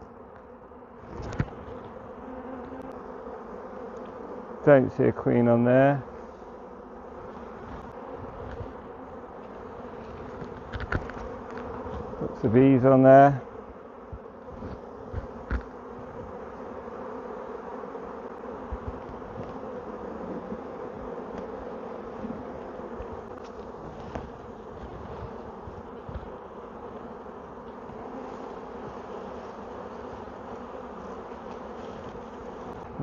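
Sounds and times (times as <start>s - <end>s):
bees buzzing: 0.0s - 33.0s.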